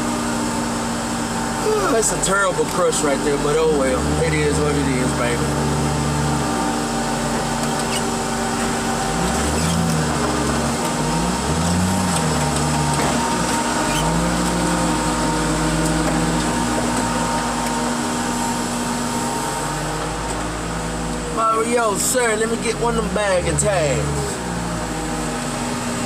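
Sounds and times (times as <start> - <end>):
heavy machinery engine revving: 0.0 - 26.0.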